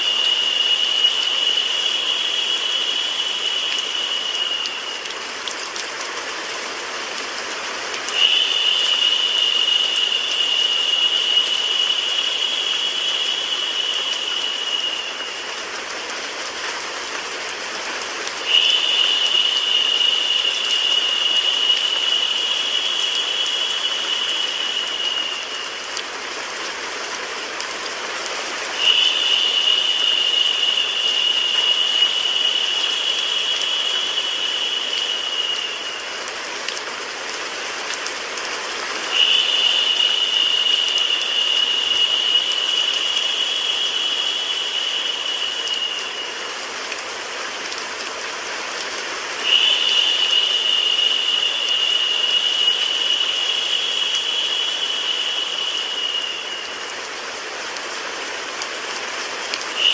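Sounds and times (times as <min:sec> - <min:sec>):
higher hiss: 0:00.0 - 0:06.0, 0:07.6 - 0:17.4, 0:18.0 - 0:37.7, 0:38.3 - 0:48.0, 0:49.2 - 0:58.0
rain: 0:00.0 - 0:59.9
white noise hiss: 0:00.0 - 0:59.9.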